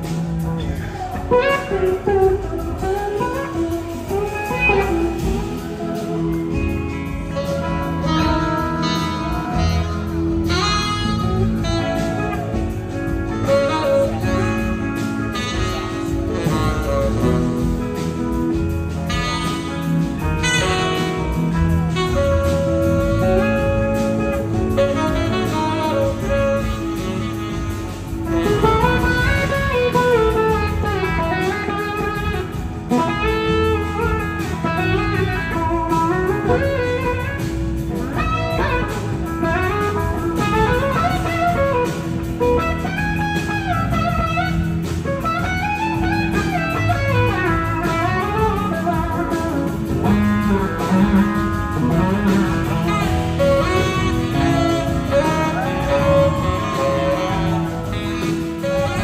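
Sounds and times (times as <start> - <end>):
electric guitar: 0.0 - 59.0
live band playing: 0.0 - 59.0
saxophone solo: 0.0 - 59.0.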